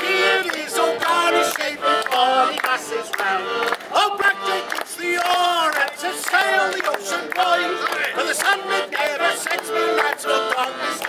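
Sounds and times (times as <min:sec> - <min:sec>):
accordion: 0:00.0 - 0:11.0
voices singing together: 0:00.0 - 0:11.0.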